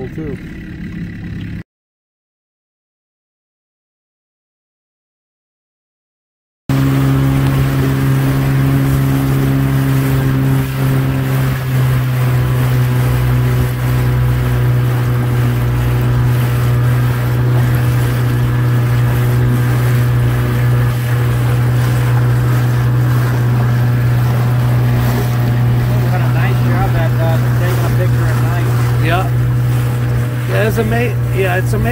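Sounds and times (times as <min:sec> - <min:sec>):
outboard motor droning: 0:00.0 - 0:01.6, 0:06.7 - 0:31.9.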